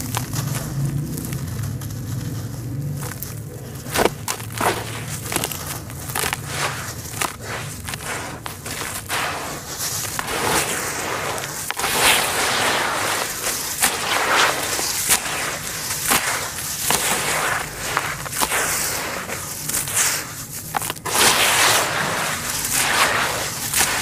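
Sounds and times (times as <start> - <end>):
gritty crunching and trickling: 0.0 - 24.0
grit pouring into bowl: 4.3 - 24.0.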